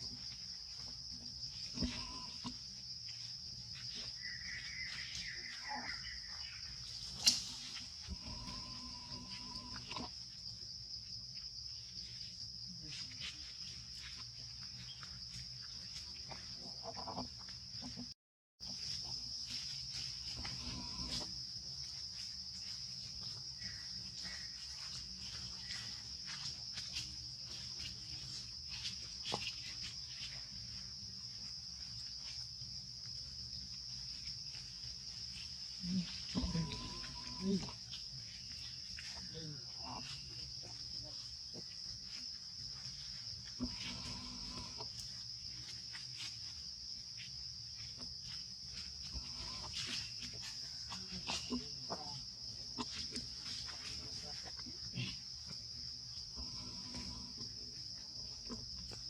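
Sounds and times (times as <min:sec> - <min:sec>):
high-pitched insect drone: 0:00.0 - 0:16.5, 0:18.7 - 0:58.3.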